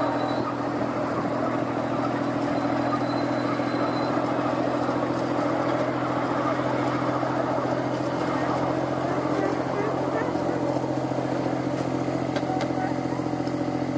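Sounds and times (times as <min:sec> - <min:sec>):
miniature locomotive engine humming: 0:00.0 - 0:13.9.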